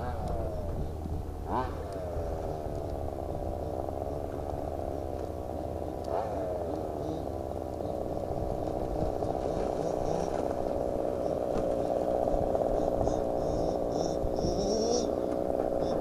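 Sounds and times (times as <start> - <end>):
distant two-stroke engine running: 0.0 - 16.0.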